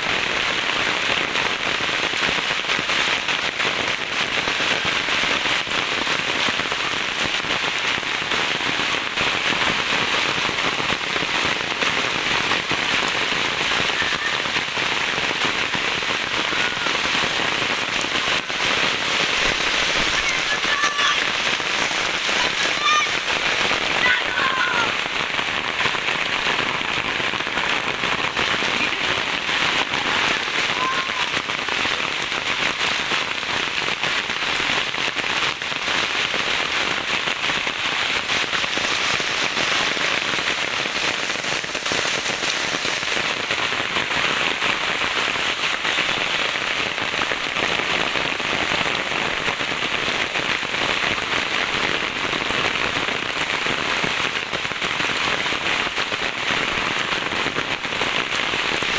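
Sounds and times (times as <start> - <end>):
rain falling steadily: 0.0 - 58.9.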